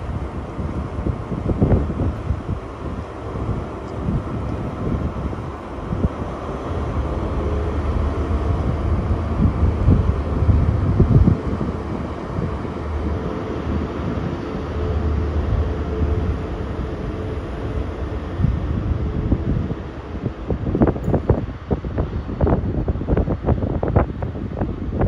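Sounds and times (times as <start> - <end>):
train diesel engine drone: 0.0 - 25.0
wind buffeting microphone: 0.0 - 25.0.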